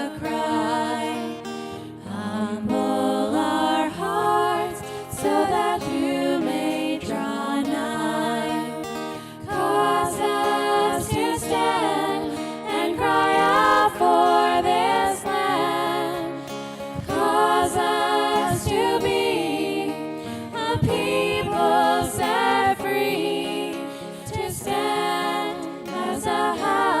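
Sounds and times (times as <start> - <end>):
worship song with accompaniment: 0.0 - 27.0.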